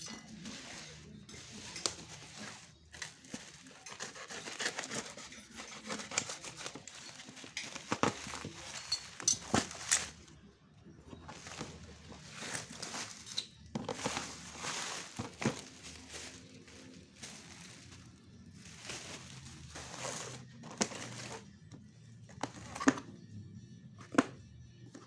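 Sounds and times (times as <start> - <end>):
packaging crinkling and rustling: 0.3 - 10.4, 11.1 - 21.5.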